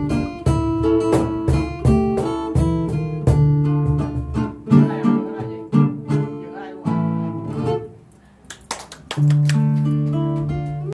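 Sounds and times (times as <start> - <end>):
acoustic guitars playing: 0.0 - 10.9.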